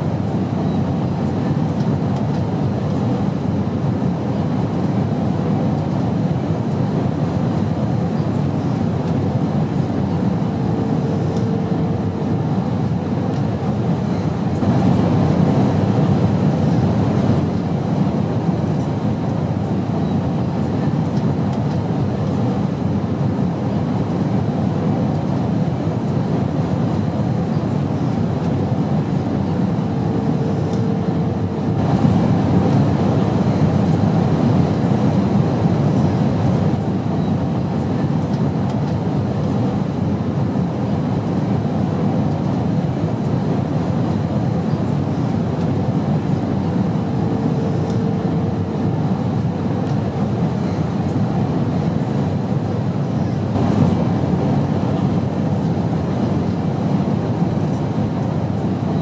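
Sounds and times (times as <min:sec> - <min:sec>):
airplane low rumble: 0:00.0 - 0:59.0.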